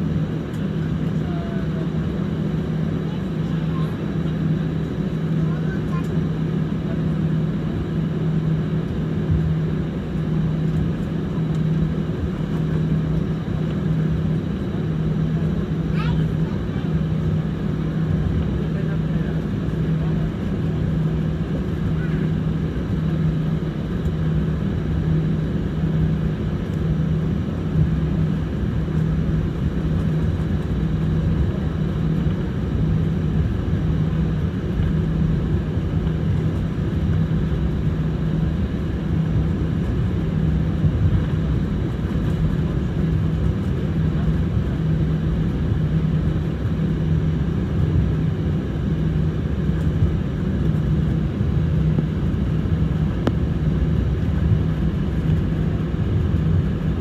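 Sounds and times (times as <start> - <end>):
airplane engine drone in cabin: 0.0 - 57.0.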